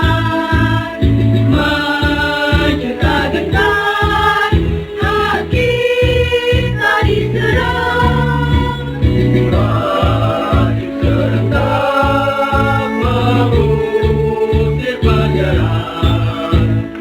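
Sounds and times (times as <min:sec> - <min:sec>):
accompaniment with low beat: 0:00.0 - 0:17.0
mixed choir singing: 0:00.0 - 0:17.0.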